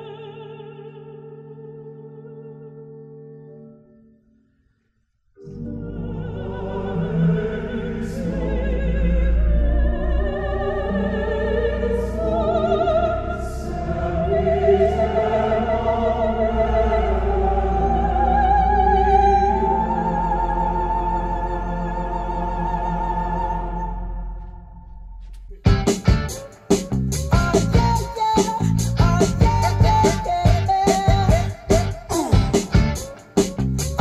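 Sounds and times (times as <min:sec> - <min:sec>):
operatic singing over accompaniment: 0:05.4 - 0:25.0, 0:26.1 - 0:34.0.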